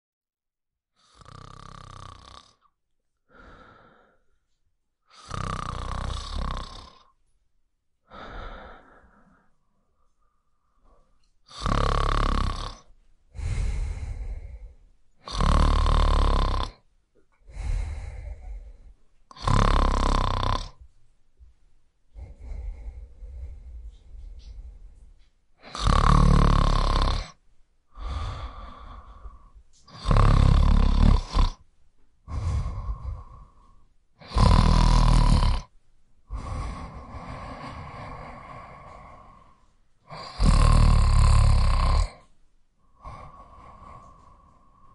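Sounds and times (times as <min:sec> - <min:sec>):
person snoring: 0:01.0 - 0:02.7, 0:05.1 - 0:07.2, 0:08.1 - 0:09.5, 0:10.8 - 0:16.8, 0:17.4 - 0:20.8, 0:22.1 - 0:25.0, 0:25.6 - 0:31.6, 0:32.3 - 0:44.9.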